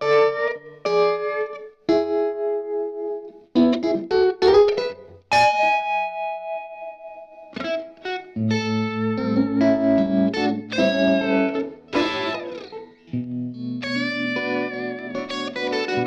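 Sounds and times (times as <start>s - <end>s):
electric guitar playing slow blues: 0.0s - 16.0s.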